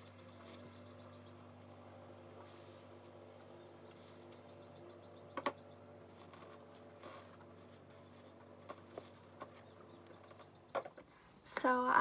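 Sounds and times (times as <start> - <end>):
room tone hum: 0.0 - 12.0.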